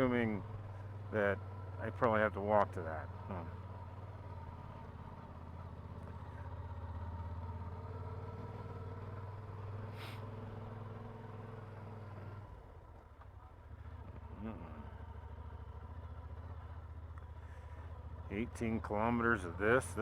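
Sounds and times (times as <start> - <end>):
motorcycle engine humming: 0.0 - 20.0.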